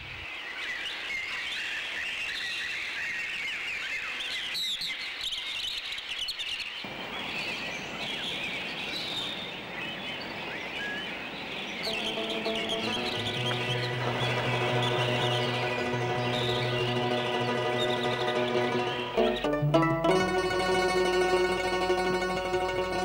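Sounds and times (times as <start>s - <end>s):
small birds chirping: 0.9s - 19.5s.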